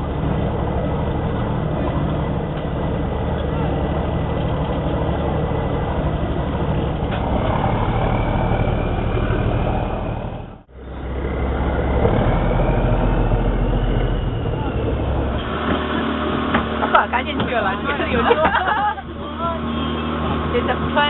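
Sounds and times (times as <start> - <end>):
small boat engine humming: 0.0 - 21.0.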